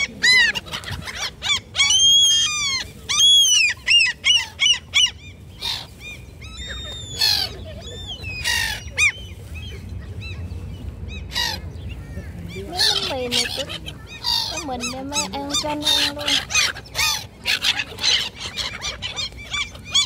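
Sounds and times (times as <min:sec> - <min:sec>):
gulls calling: 0:00.0 - 0:20.0.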